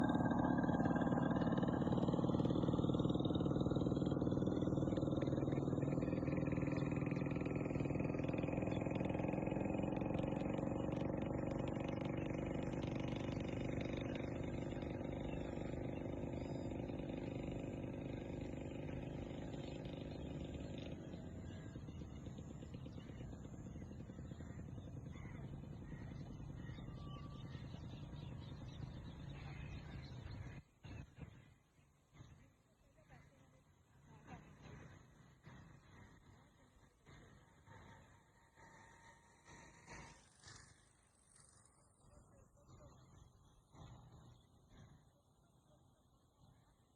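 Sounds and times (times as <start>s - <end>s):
vehicle engine moving away: 0.0s - 46.9s.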